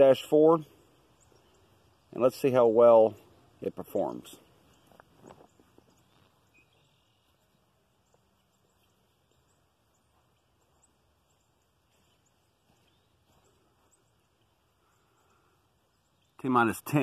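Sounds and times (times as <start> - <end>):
faint high bird chirps: 0.0 - 17.0.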